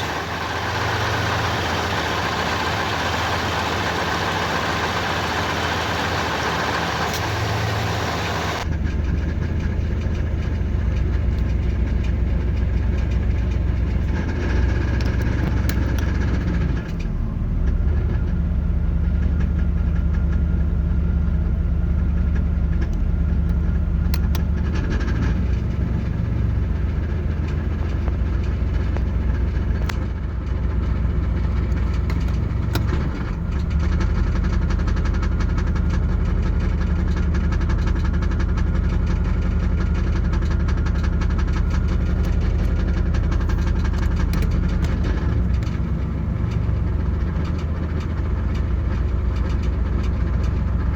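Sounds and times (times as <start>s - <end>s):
car engine idling with rattle: 0.0s - 50.9s.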